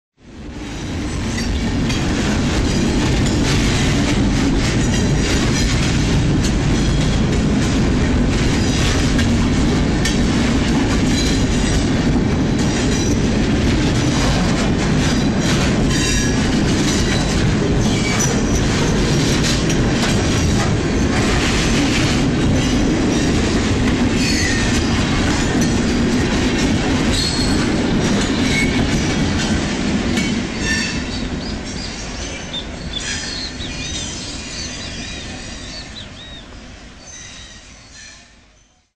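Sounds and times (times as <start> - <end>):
train rumbling on rails: 0.2 - 38.9
rail clatter: 0.4 - 38.4.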